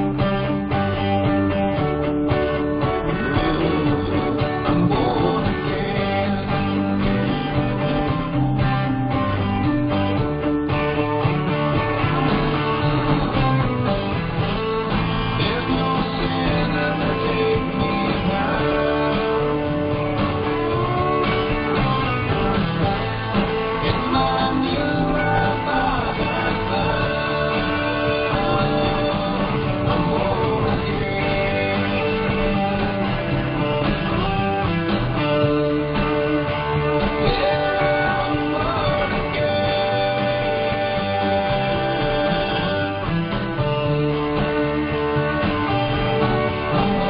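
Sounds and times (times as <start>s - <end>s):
guitar-led music: 0.0s - 47.0s.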